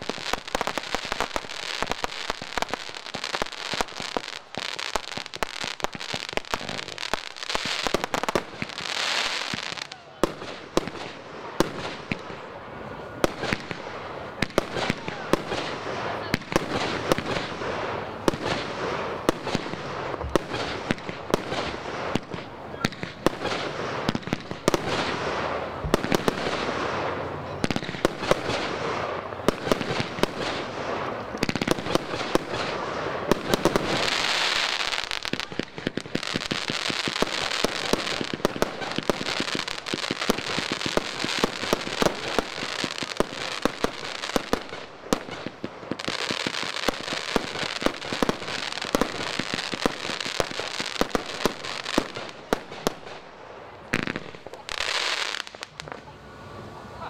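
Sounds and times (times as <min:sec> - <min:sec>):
firework bangs: 0:00.0 - 0:56.2
hissing crackle of fireworks: 0:00.0 - 0:57.0.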